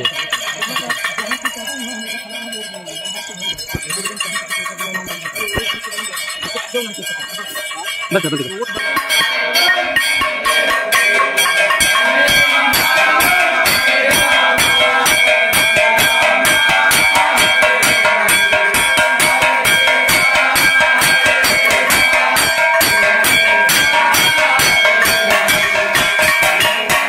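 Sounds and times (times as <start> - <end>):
brass bell ringing: 0.0 - 27.0
struck percussion beat: 0.0 - 27.0.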